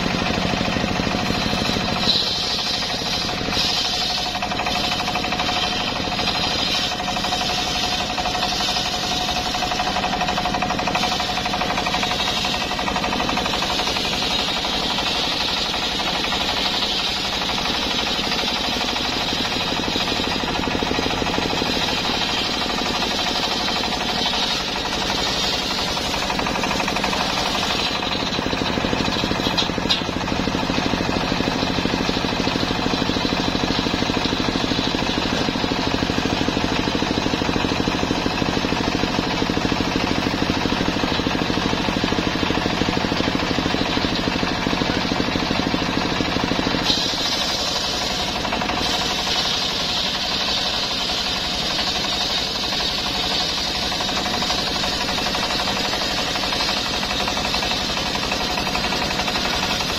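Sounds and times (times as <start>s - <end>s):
engine running: 0.0s - 59.9s
saw blade cutting log: 0.0s - 59.9s.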